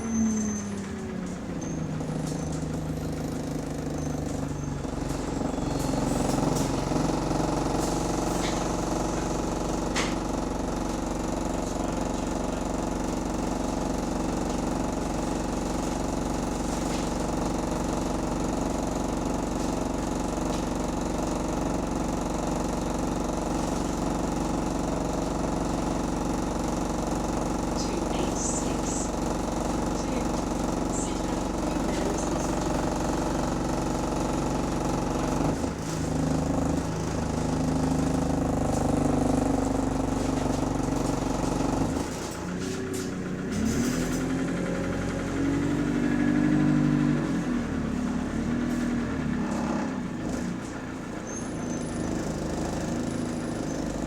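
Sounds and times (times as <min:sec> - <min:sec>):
diesel bus engine knocking: 0:00.0 - 0:54.0.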